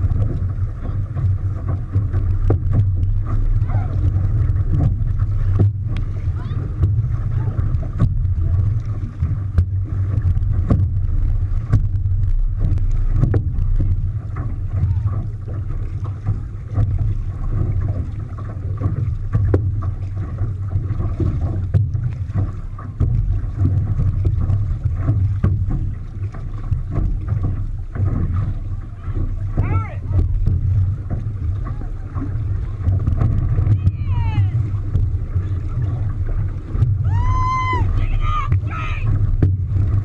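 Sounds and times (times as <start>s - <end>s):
water rushing and splashing: 0.0s - 40.0s
wind buffeting microphone: 0.0s - 40.0s.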